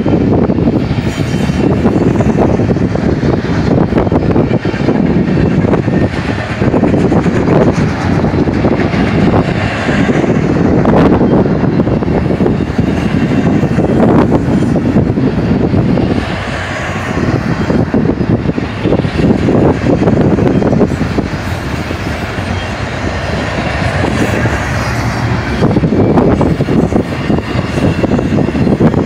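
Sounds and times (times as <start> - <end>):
freight train wheels rumbling on rail: 0.0 - 29.0
sharp train clanks: 0.0 - 29.0.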